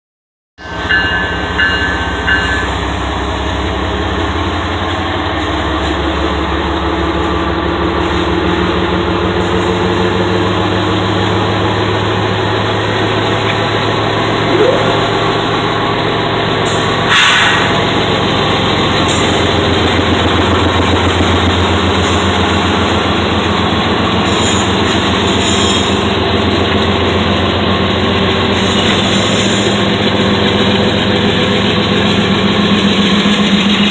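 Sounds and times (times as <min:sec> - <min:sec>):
diesel locomotive engine drone: 0:00.6 - 0:33.9.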